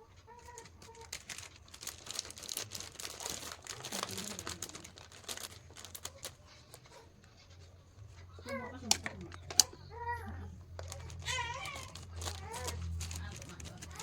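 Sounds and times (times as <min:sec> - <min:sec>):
plastic snack packets crinkling: 0:00.2 - 0:07.4, 0:08.5 - 0:14.0.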